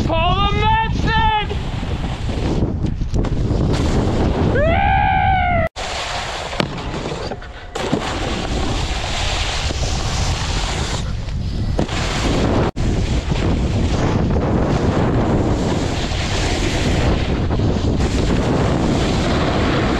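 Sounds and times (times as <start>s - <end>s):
wind on camera microphone: 0.0s - 5.7s, 6.5s - 19.9s
snowboard sliding over snow: 1.5s - 4.9s, 5.8s - 19.9s.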